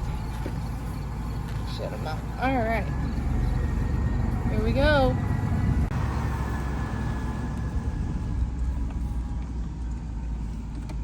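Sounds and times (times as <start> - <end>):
vehicle rumble from on board: 0.0 - 11.0.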